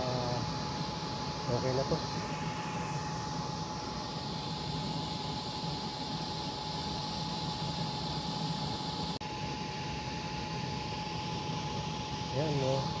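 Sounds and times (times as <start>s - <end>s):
blower rushing air: 0.0s - 13.0s
motor whine: 0.0s - 13.0s.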